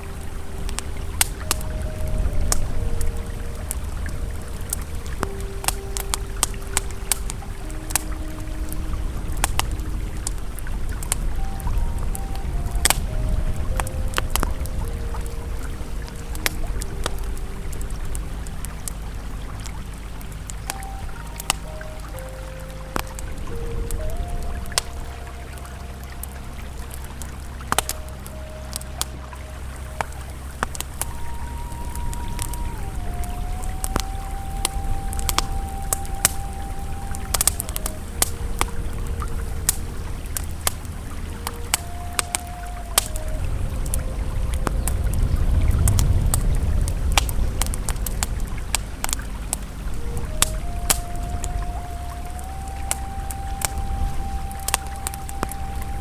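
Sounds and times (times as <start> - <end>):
ambient music tones: 0.0 - 56.0
campfire crackling: 0.0 - 56.0
river flowing: 0.0 - 56.0.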